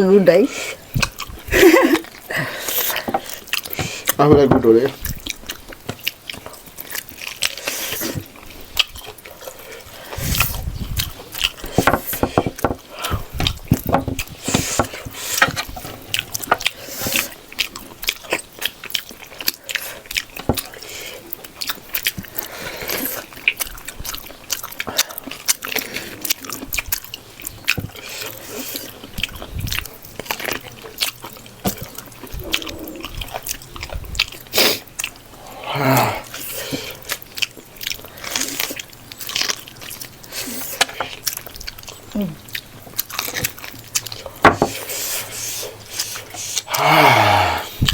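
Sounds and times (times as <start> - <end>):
wet chewing: 0.0 - 47.9
lip smacks: 0.7 - 4.2, 5.0 - 47.9.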